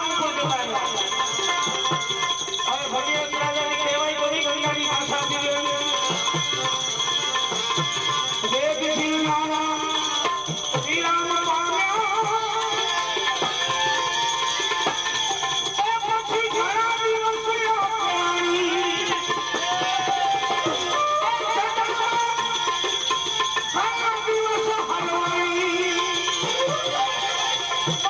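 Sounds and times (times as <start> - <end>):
jingling percussion: 0.0 - 28.0.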